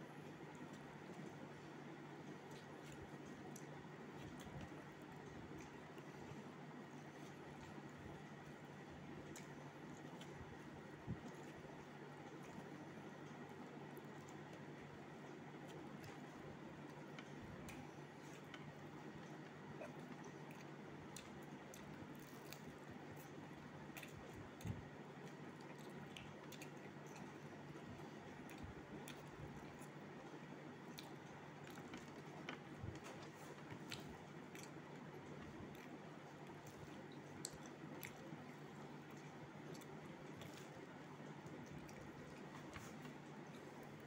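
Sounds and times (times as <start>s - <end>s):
person chewing food: 0.2s - 44.0s.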